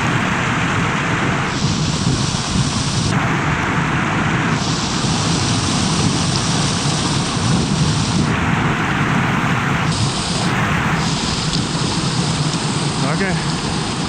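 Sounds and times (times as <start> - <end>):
fast stream rushing: 0.0 - 14.0.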